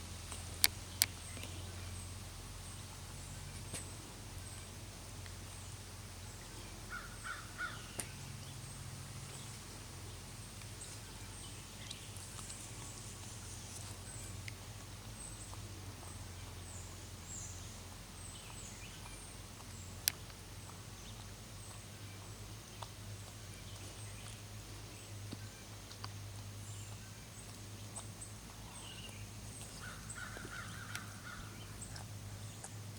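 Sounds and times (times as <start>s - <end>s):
steady low hum: 0.0s - 32.9s
birds chirping: 5.4s - 32.9s.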